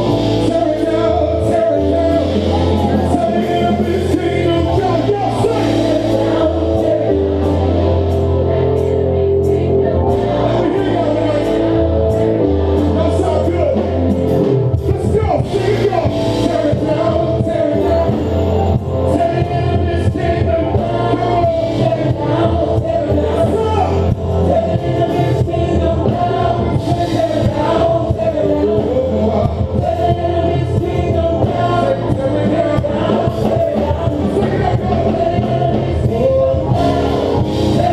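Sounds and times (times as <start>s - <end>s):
band with bass and drums: 0.0s - 37.9s
choir singing: 0.0s - 37.9s.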